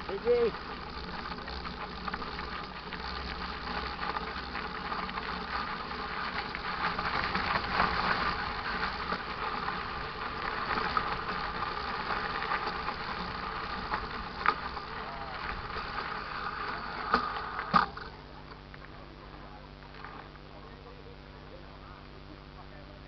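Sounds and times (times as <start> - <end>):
bike rattling and knocking: 0.0 - 18.7
bike tyres rolling on dirt: 0.0 - 23.0.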